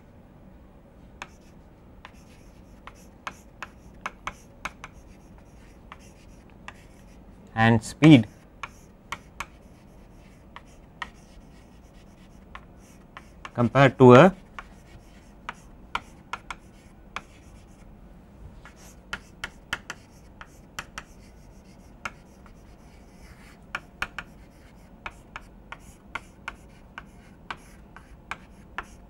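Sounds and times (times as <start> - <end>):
chalk tapping and scratching: 1.2 - 7.2, 8.2 - 17.8, 18.6 - 29.0.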